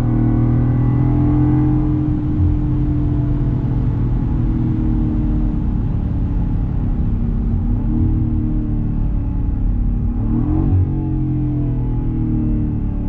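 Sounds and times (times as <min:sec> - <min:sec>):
engine running with exhaust rumble: 0:00.0 - 0:13.0.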